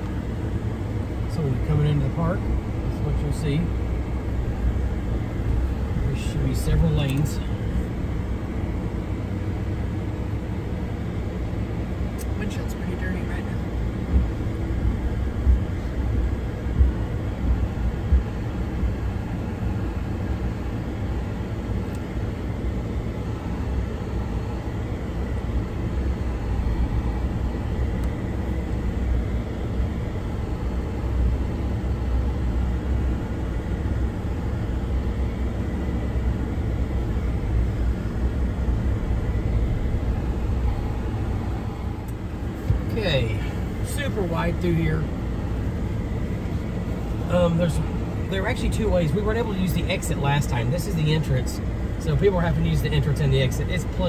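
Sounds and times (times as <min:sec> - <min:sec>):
engine and tyres on gravel: 0:00.0 - 0:52.2.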